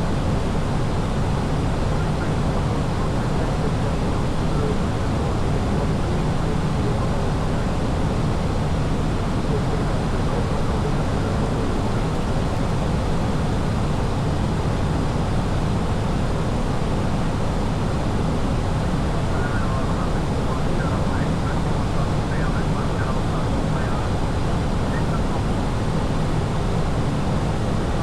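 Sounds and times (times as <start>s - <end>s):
jet airliner engines rushing: 0.0s - 28.0s.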